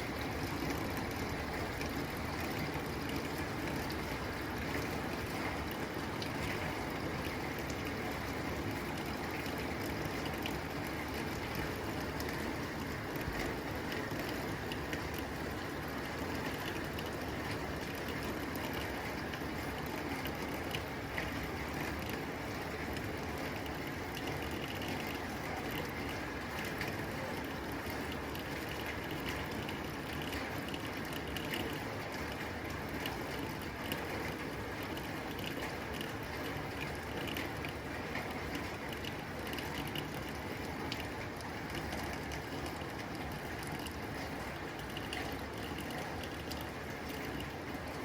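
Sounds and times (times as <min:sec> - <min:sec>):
rain on a tin roof: 0:00.0 - 0:48.0.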